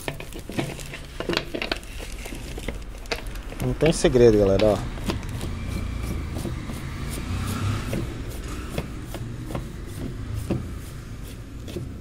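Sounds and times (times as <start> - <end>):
plastic cup rubbing and clicks: 0.0 - 12.0.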